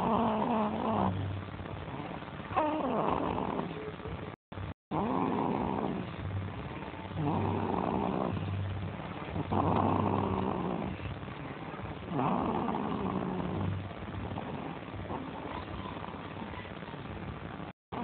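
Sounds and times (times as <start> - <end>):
slow rhythmic snoring: 0.0 - 4.0, 4.9 - 16.2.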